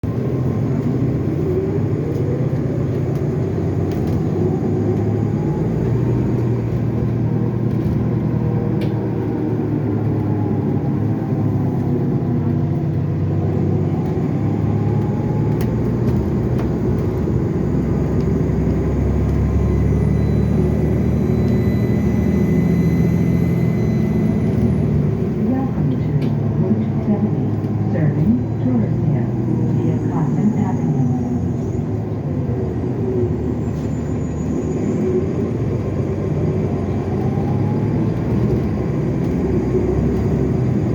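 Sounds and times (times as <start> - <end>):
bus diesel engine humming: 0.0 - 40.9.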